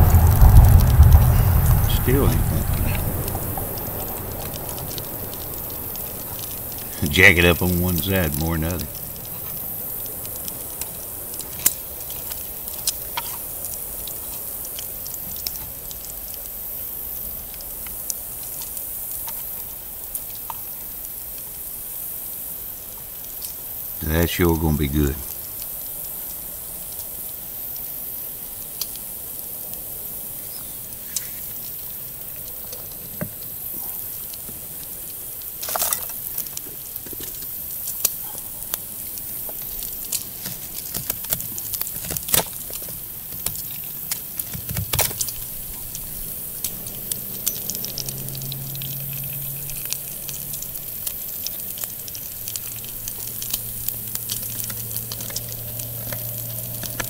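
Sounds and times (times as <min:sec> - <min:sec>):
fat popping and crackling: 0:00.0 - 0:16.5, 0:23.4 - 0:27.4, 0:30.9 - 0:57.0
bacon sizzling: 0:03.0 - 0:24.6, 0:25.2 - 0:57.0.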